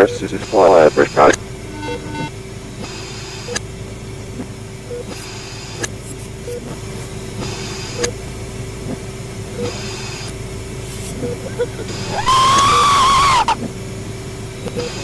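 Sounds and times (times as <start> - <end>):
low drone and hum: 0.0 - 15.0.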